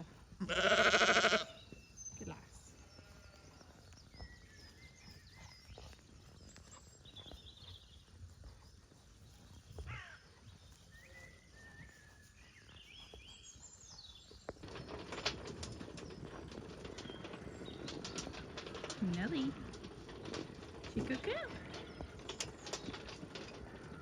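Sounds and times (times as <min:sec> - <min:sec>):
rustling crackling noise: 0:00.0 - 0:24.0
small birds chirping: 0:00.0 - 0:24.0.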